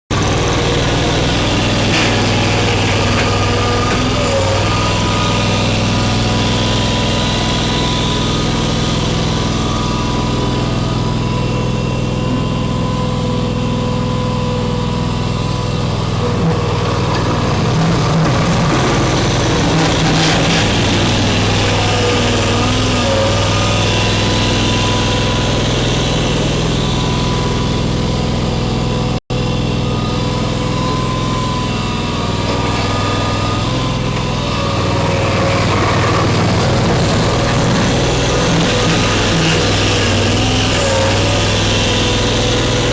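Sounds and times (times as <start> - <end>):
garden tractor engine running: 0.1 - 42.9.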